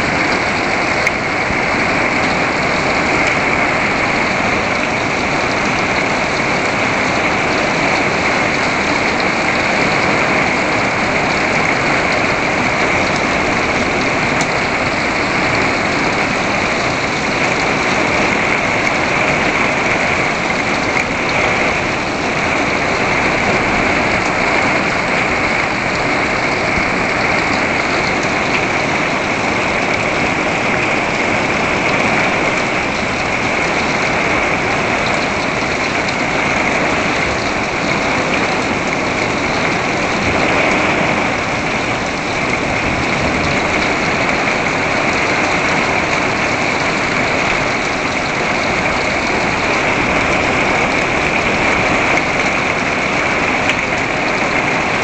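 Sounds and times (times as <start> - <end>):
heavy rain on wooden deck: 0.0 - 55.0.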